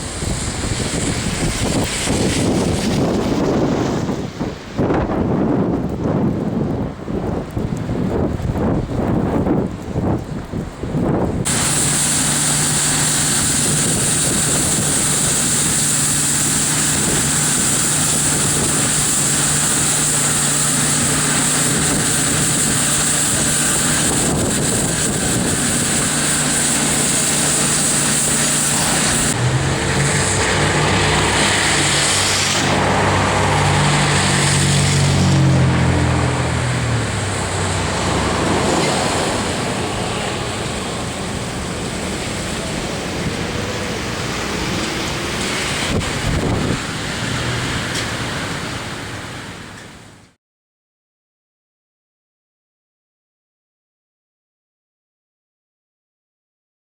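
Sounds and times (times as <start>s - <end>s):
vehicle engine humming: 0.0s - 50.0s
wind rushing over microphone: 0.0s - 50.0s
street traffic: 0.0s - 50.3s.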